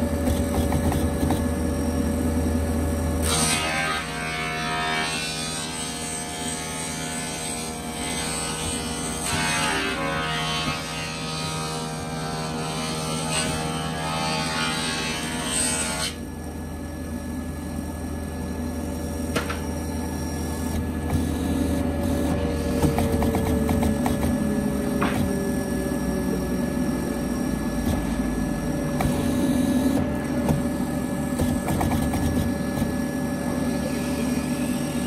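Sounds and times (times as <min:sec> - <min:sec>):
machine motor hum: 0:00.0 - 0:05.2, 0:05.8 - 0:35.0.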